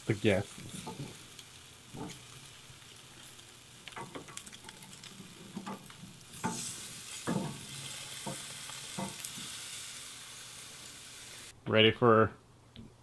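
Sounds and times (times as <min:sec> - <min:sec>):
meat sizzling on a grill: 0:00.0 - 0:11.6.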